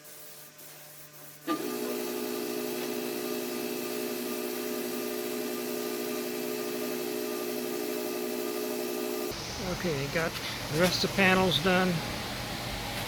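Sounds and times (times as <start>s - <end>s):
paint sprayer hiss: 0.0s - 12.2s
paint sprayer motor hum: 0.0s - 13.0s.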